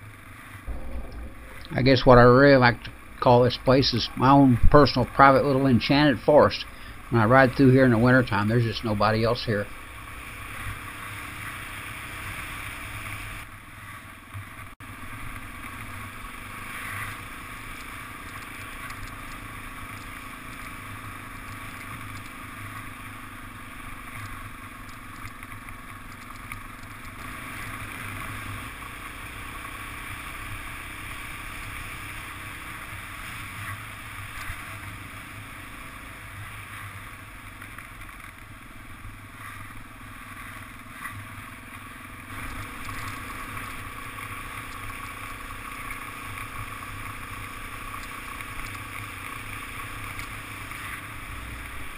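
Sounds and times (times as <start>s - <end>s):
motorcycle engine running: 0.0s - 51.9s
tyres on gravel road: 0.0s - 51.9s.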